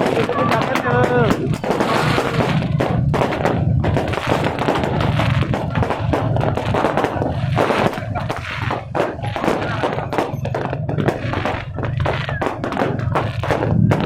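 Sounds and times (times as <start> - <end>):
fireworks and firecrackers banging: 0.0 - 14.0.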